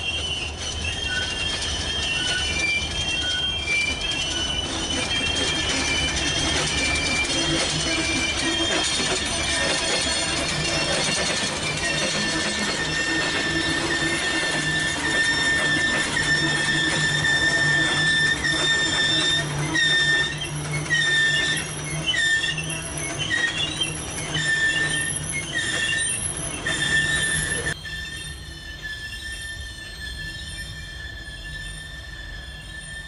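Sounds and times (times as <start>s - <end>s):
train wheels squealing: 0.0s - 33.0s.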